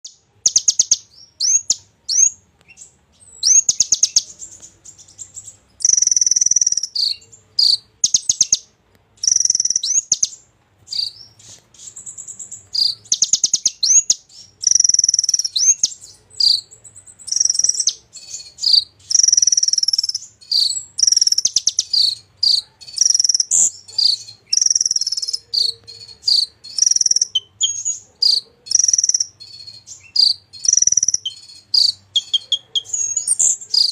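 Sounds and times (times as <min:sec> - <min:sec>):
songbird trilling and chirping: 0:00.0 - 0:33.9.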